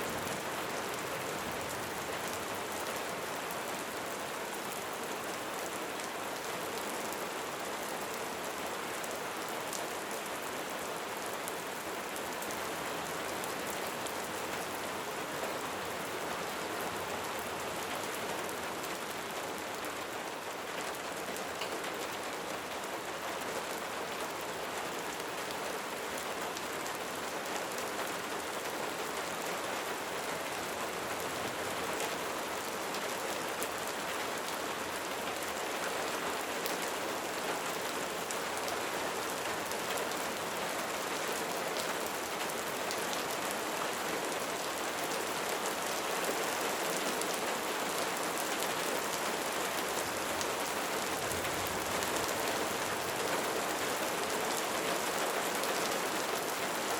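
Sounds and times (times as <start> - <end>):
light rain pattering: 0.0 - 56.9.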